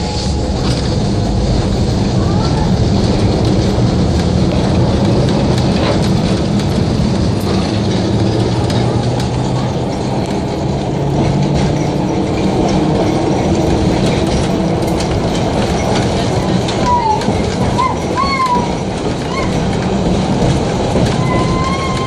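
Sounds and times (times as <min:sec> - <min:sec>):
steel wheels rumbling on rails: 0:00.0 - 0:22.0
streetcar motor hum: 0:00.0 - 0:22.0.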